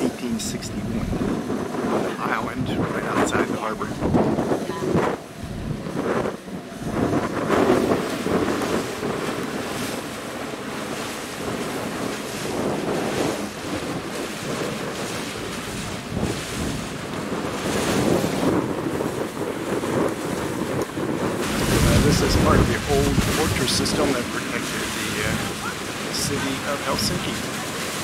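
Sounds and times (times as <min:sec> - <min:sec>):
rushing water: 0:00.0 - 0:28.0
wind buffeting microphone: 0:00.0 - 0:28.0.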